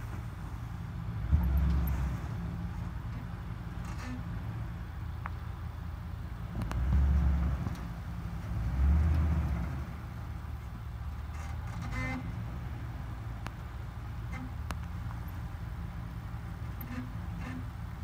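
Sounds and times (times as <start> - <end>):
truck engine revving and rumbling: 0.0 - 18.0.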